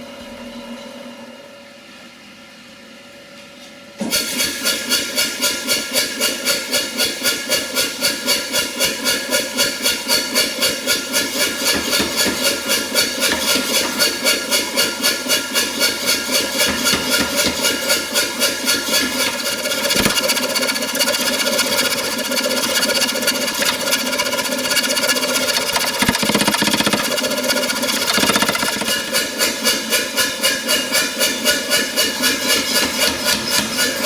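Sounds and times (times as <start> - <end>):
machine running with regular beat: 5.1 - 34.0.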